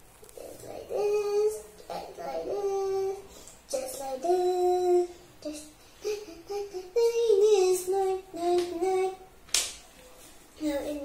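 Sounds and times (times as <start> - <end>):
girl singing: 0.3 - 9.4, 10.5 - 11.0.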